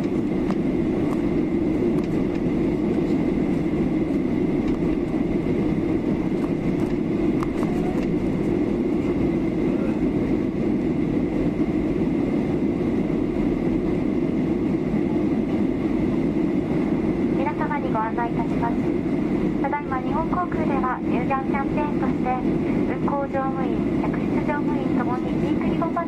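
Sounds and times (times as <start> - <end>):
airflow over fuselage: 0.0 - 26.0
faint steady whine: 0.0 - 26.0
jet engines rumbling: 0.0 - 26.0.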